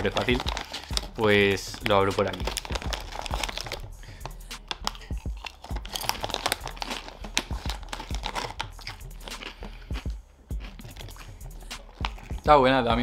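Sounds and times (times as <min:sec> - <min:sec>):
plastic chip bag crackling: 0:00.0 - 0:09.8, 0:10.6 - 0:12.5.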